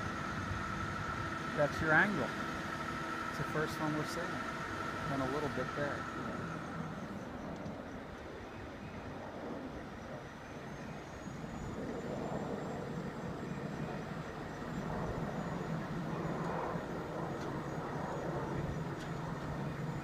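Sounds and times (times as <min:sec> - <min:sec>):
crane engine humming: 0:00.0 - 0:20.0.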